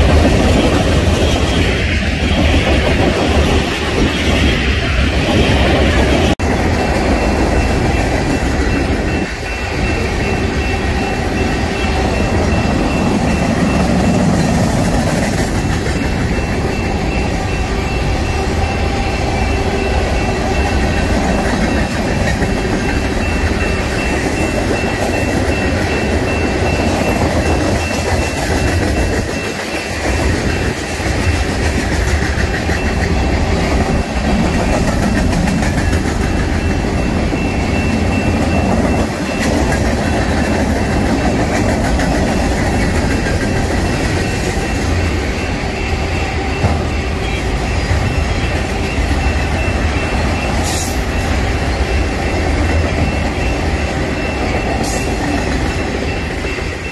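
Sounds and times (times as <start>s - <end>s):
rhythmic clickety-clack: 0.0s - 56.9s
train wheels rumbling on rails: 0.0s - 56.9s.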